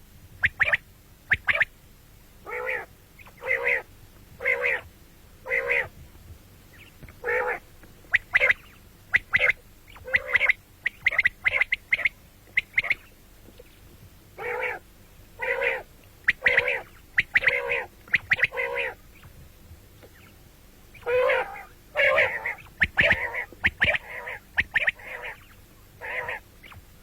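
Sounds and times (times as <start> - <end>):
quail calling: 0.4 - 1.7, 2.4 - 6.0, 6.7 - 13.2, 14.4 - 19.4, 20.0 - 26.9.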